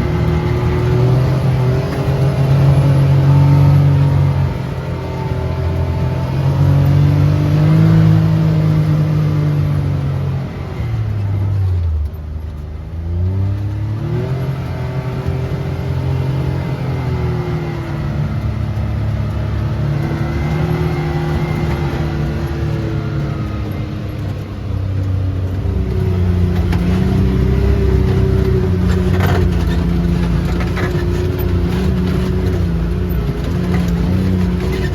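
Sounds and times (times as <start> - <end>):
off-road vehicle engine running: 0.0 - 34.9.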